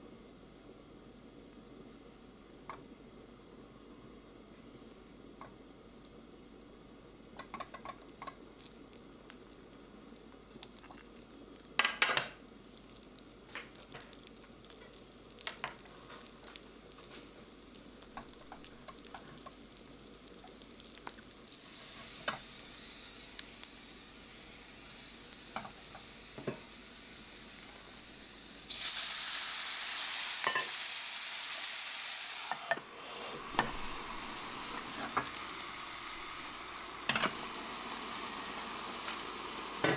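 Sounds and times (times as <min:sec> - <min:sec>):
dumplings sizzling in oil: 0:05.0 - 0:39.9
loud sizzling hiss: 0:07.2 - 0:39.9.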